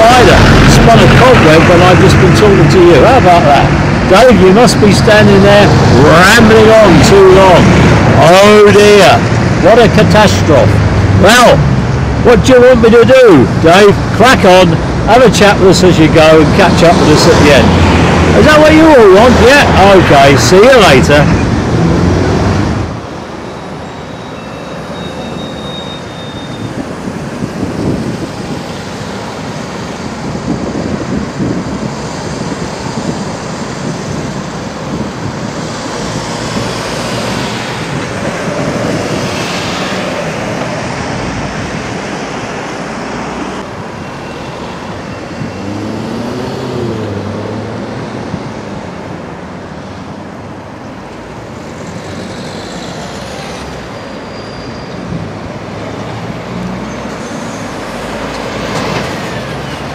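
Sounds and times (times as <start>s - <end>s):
diesel engines running: 0.0s - 59.9s
traffic noise: 0.0s - 59.9s
tyres on road: 0.0s - 59.9s.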